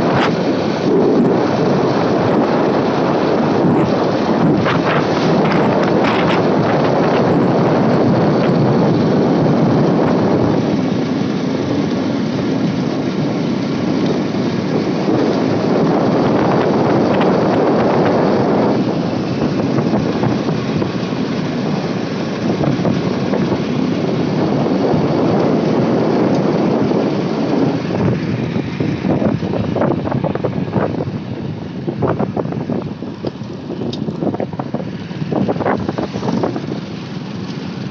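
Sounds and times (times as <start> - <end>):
motorcycle engine: 0.0 - 37.9
road noise: 0.0 - 37.9
wind on microphone: 0.0 - 37.9.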